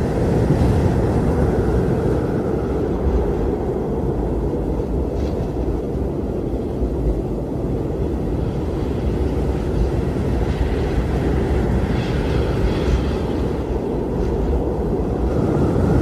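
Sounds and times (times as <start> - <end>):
strong blizzard wind blowing: 0.0 - 16.0.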